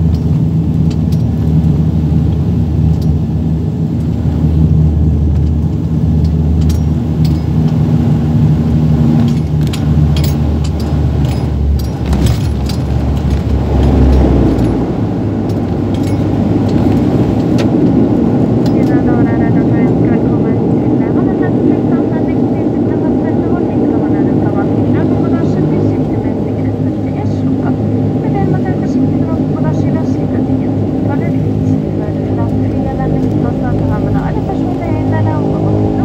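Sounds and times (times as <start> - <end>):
propeller and engine drone: 0.0 - 36.0
rattles in aircraft cabin: 0.0 - 36.0.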